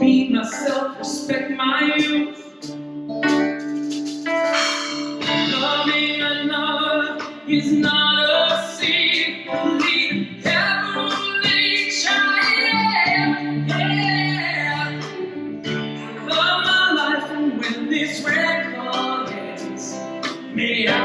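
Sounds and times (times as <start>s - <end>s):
person singing: 0.0s - 2.8s, 4.5s - 21.0s
live band playing: 0.0s - 21.0s.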